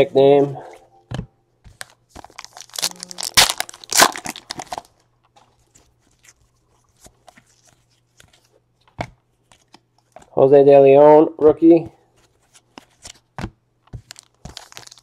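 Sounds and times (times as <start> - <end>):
trading cards rustling and flicking: 1.1 - 10.3, 12.2 - 15.0.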